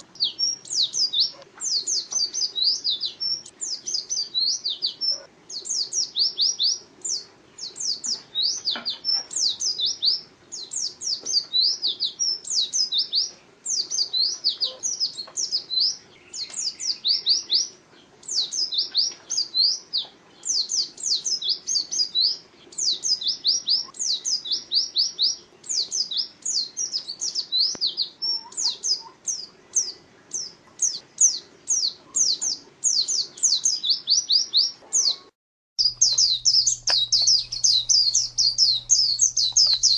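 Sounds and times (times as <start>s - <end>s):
songbird chirping rapidly: 0.0s - 39.9s.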